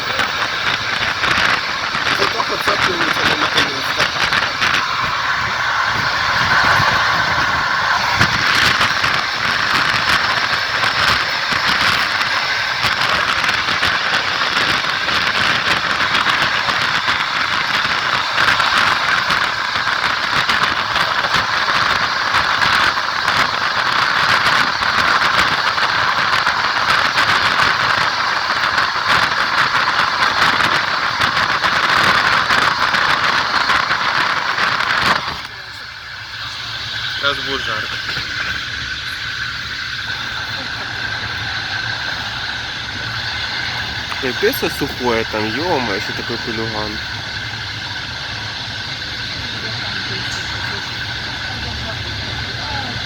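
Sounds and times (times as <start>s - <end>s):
train running noise: 0.0s - 53.0s.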